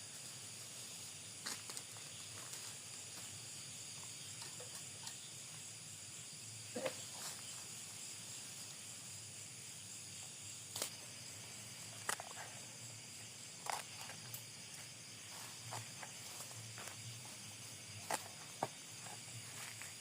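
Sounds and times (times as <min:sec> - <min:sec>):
night insects chorus: 0:00.0 - 0:20.0.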